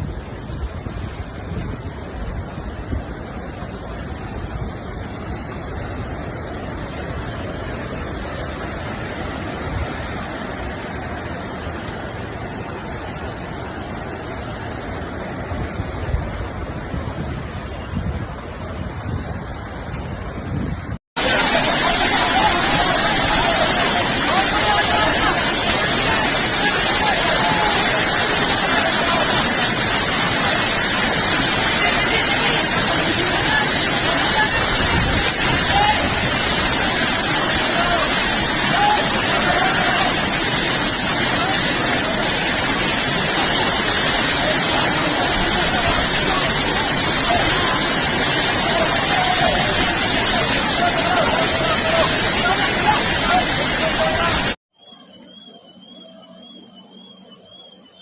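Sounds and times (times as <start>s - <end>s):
river torrent rushing: 0.0s - 54.6s.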